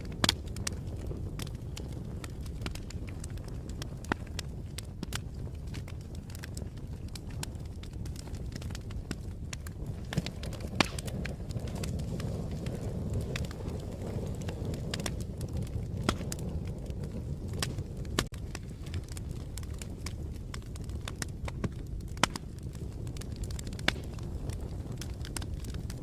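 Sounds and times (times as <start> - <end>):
fire crackling: 0.0 - 26.0.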